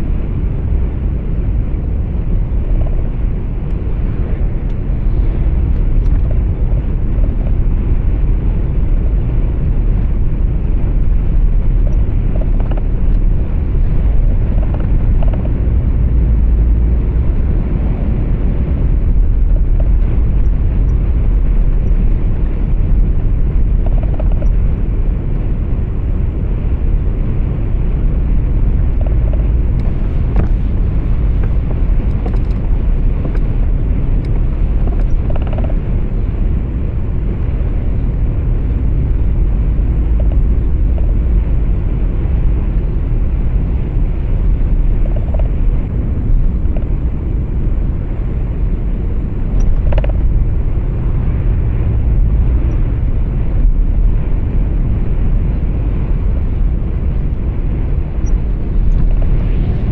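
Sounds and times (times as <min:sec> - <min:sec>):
truck engine and tyres rumbling: 0:00.0 - 0:59.9.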